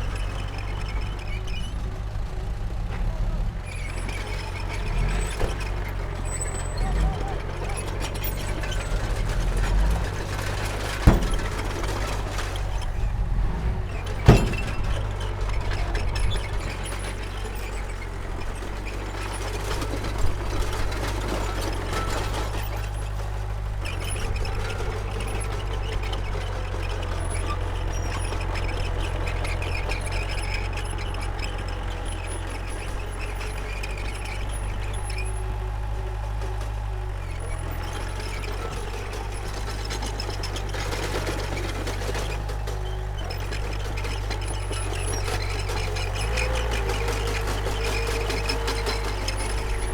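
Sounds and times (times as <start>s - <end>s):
heavy diesel engine under load: 0.0s - 49.9s.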